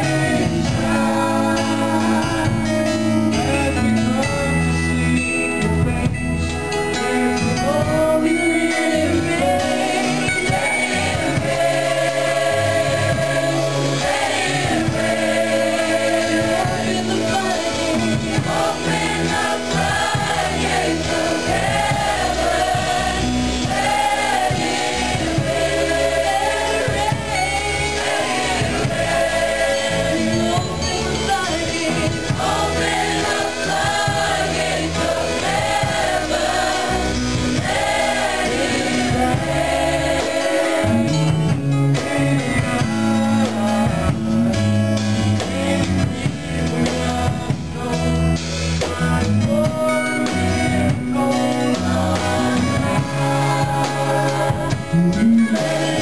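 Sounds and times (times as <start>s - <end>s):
choir singing: 0.0s - 4.4s, 7.3s - 56.0s
man and woman singing: 0.0s - 4.8s, 7.4s - 56.0s
instrumental accompaniment with bass: 0.0s - 56.0s.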